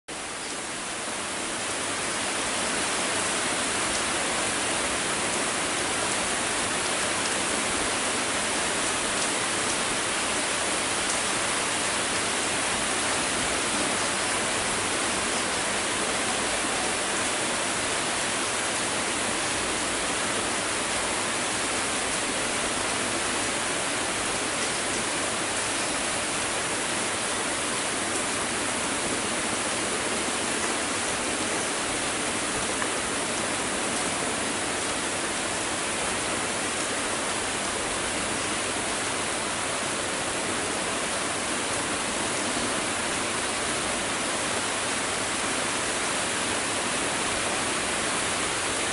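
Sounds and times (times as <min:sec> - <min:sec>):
heavy rain falling: 0:00.1 - 0:48.9.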